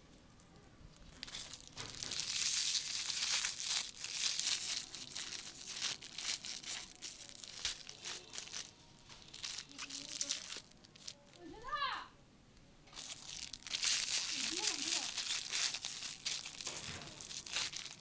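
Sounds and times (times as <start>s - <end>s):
foil wrapper crinkling: 0.9s - 11.4s, 12.9s - 18.0s.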